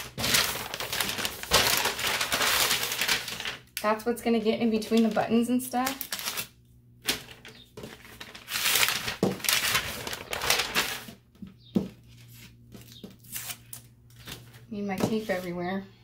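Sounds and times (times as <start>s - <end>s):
paper rustling and crinkling: 0.0s - 3.8s, 4.7s - 15.6s.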